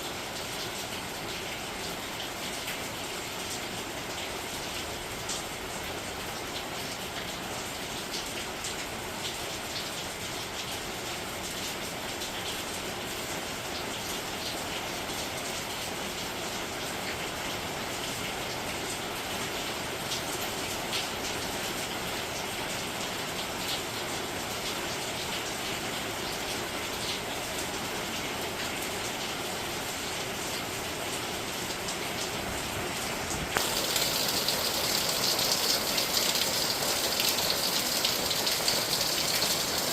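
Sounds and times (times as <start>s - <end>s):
steady rain falling: 0.0s - 39.9s
raindrops ticking on hard surfaces: 0.1s - 39.9s.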